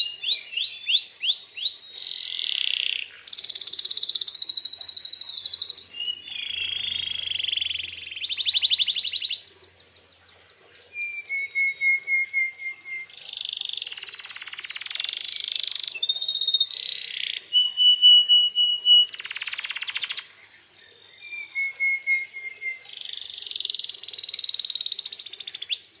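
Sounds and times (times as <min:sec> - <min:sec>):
canary singing: 0:00.0 - 0:09.6, 0:10.3 - 0:20.4, 0:21.1 - 0:25.9.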